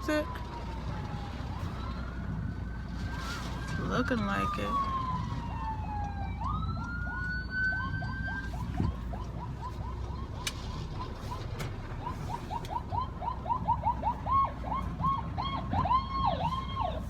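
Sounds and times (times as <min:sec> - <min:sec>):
siren wailing: 0:00.0 - 0:17.0
siren yelping: 0:00.0 - 0:17.0.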